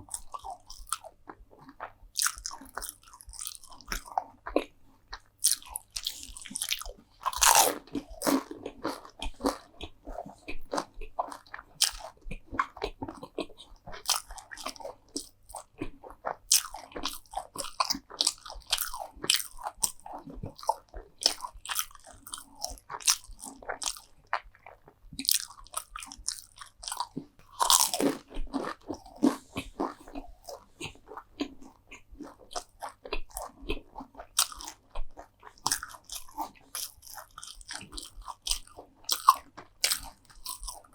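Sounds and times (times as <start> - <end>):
crunchy food bites and chewing: 0.0 - 40.9.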